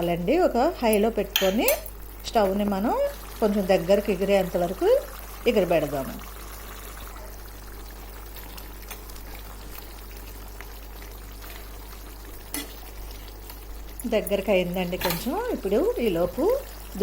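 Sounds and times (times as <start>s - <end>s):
curry boiling with bubbling hiss: 0.0s - 17.0s.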